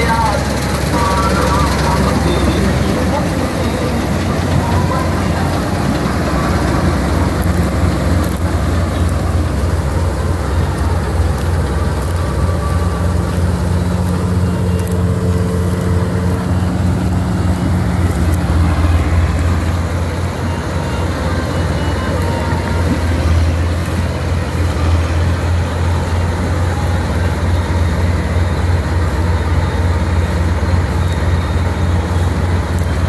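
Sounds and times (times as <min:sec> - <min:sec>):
combine harvester engine drone: 0:00.0 - 0:33.0.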